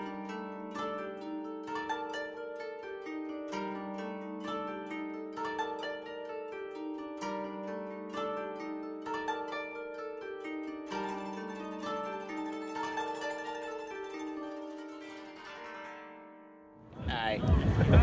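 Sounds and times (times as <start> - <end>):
plucked-string melody: 0.0 - 17.0.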